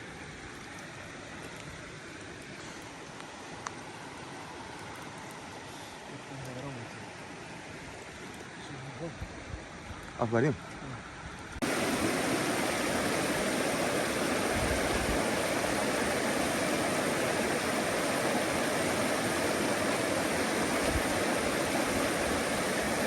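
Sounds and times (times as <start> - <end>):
rushing river water: 0.0 - 10.0, 11.6 - 23.0.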